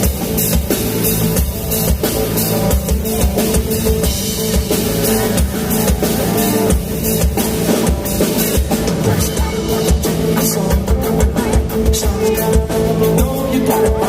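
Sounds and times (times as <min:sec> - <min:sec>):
drum kit steady beat: 0:00.0 - 0:14.0
live band music: 0:00.0 - 0:14.0.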